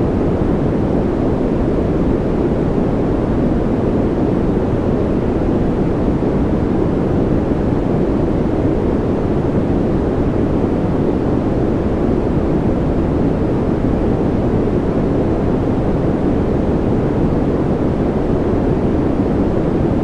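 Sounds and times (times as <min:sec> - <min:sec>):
low white noise: 0:00.0 - 0:20.0.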